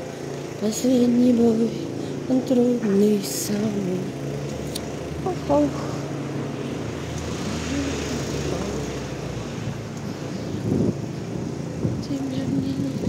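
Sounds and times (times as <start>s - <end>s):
street traffic engine hum: 0.0s - 13.0s.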